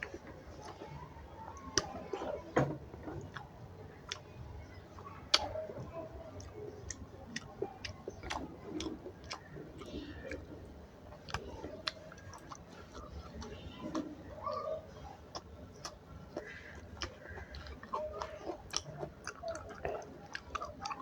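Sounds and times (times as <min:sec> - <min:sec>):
eating clicks and smacks: 0:00.0 - 0:21.0
faint chewing: 0:00.0 - 0:21.0.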